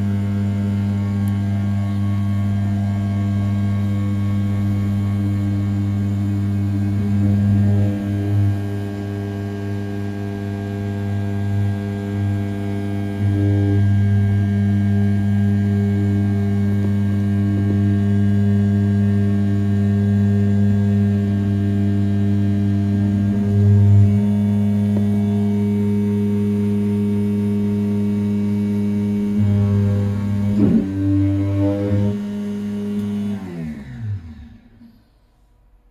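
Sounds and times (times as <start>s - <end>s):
cnc mill spindle humming: 0.0s - 35.1s.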